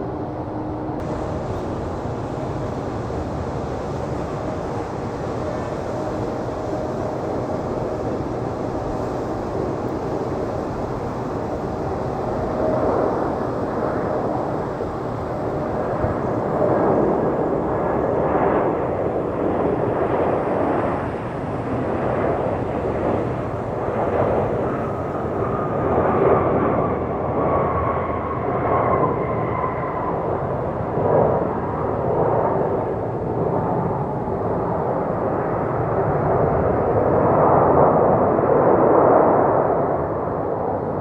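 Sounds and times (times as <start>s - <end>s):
jet engines roaring past: 0.0s - 41.0s.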